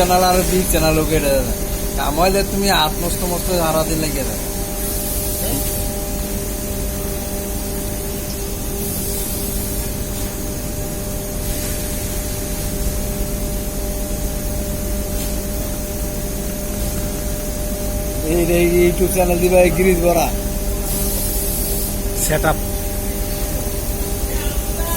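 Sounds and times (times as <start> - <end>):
machinery drone: 0.0 - 24.9.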